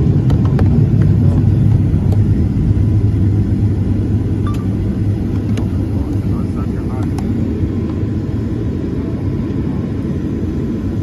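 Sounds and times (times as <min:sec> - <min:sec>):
airliner cabin low rumble: 0:00.0 - 0:11.0.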